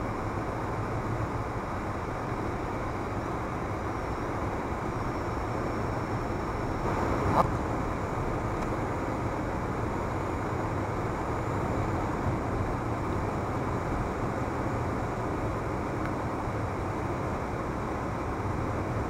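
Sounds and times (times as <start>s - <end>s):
car road and tyre noise: 0.0s - 19.0s.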